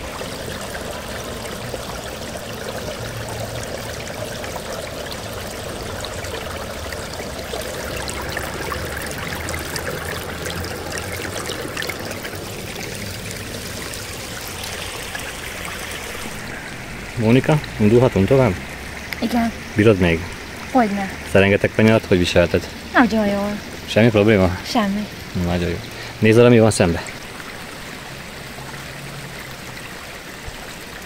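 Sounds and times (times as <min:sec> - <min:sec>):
brook babbling over stones: 0:00.0 - 0:31.0.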